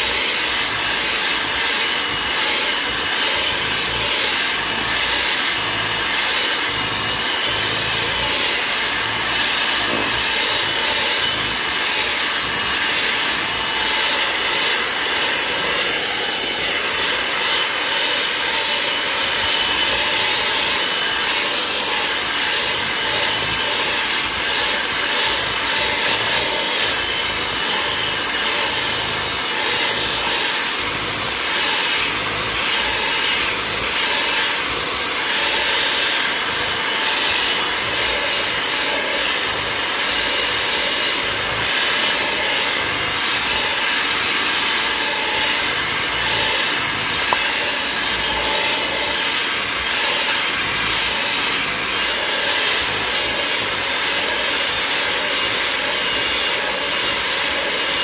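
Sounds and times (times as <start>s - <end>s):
electric mixer running: 0.0s - 58.0s.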